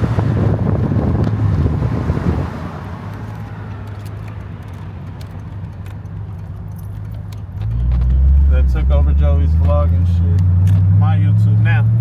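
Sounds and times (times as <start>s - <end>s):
car engine drone: 0.0s - 12.0s
road and wind noise: 0.0s - 12.0s.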